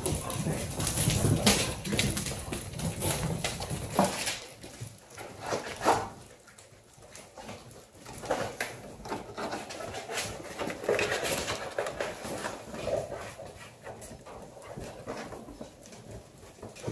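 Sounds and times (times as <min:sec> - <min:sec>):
puppies in cardboard boxes: 0:00.0 - 0:16.9
puppy claws clicking on tile: 0:00.0 - 0:16.9.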